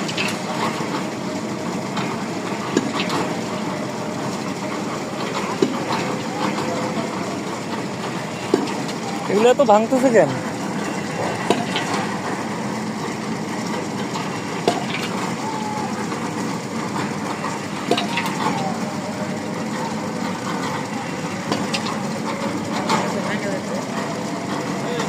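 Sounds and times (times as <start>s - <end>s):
piling rig engine running: 0.0s - 25.0s.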